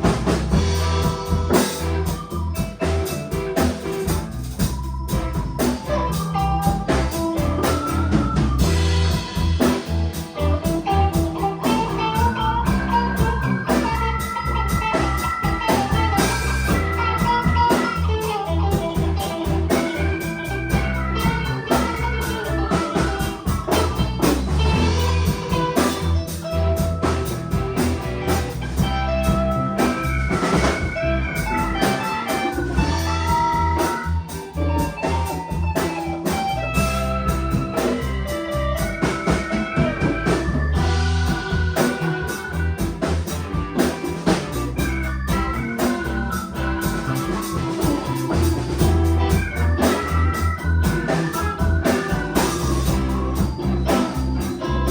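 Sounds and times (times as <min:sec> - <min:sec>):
bass: 0:00.0 - 0:54.9
drum kit: 0:00.0 - 0:54.9
melodic guitar line: 0:00.0 - 0:54.9.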